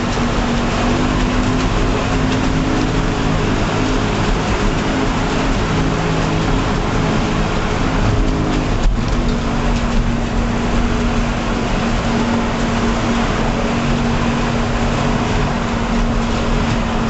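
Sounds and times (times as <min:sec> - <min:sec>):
engine hum inside vehicle cabin: 0:00.0 - 0:17.0
tyres on gravel road: 0:00.0 - 0:17.0.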